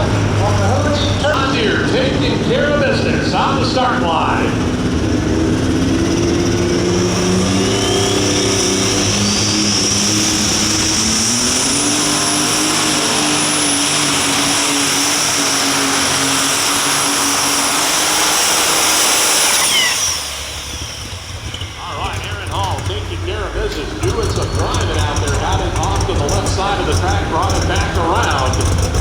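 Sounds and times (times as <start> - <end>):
diesel engine at full power: 0.0 - 29.0
high turbo whine: 0.0 - 29.0.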